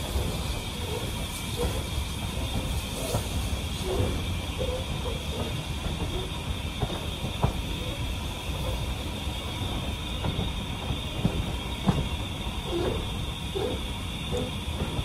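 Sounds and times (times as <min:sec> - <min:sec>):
hiss: 0:00.0 - 0:15.0
train wheels rumbling: 0:00.0 - 0:15.0.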